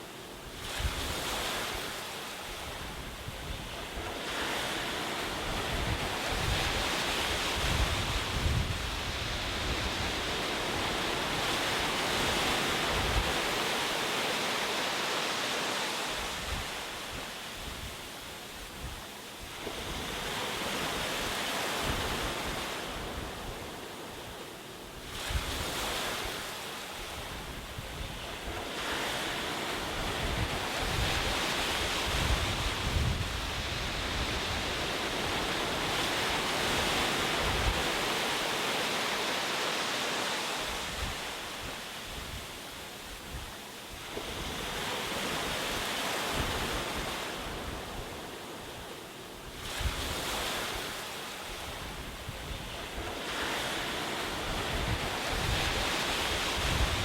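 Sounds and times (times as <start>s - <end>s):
ocean waves breaking: 0.0s - 18.7s, 19.3s - 57.0s
wind on microphone: 0.4s - 14.3s, 15.7s - 39.2s, 40.2s - 57.0s.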